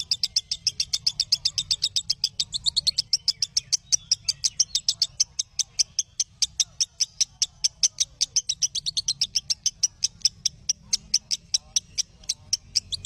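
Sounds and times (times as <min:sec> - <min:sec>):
bird chirping rapidly: 0:00.0 - 0:13.0.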